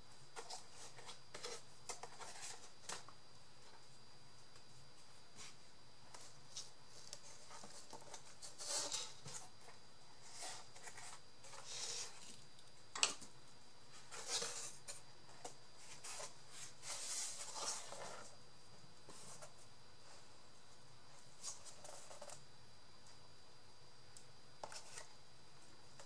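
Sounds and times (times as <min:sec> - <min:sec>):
rustling and scraping of materials: 0:00.1 - 0:18.4, 0:19.0 - 0:22.4, 0:24.6 - 0:25.2.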